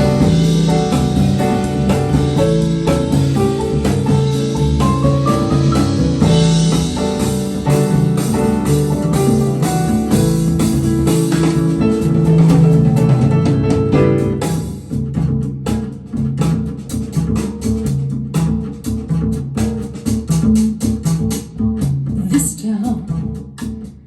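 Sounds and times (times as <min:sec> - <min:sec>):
jazzy pop instrumental music: 0:00.0 - 0:24.0.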